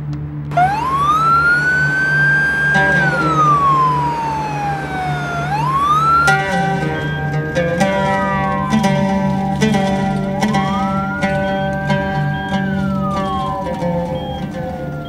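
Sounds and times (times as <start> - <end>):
ambulance siren wailing: 0.5 - 15.0
soft background music: 0.5 - 15.0.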